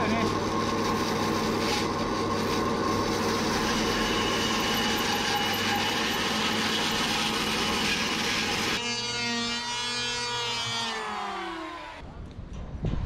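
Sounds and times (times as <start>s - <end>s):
band saw machine hum: 0.0s - 12.0s
saw blade whining in wood: 0.0s - 12.0s.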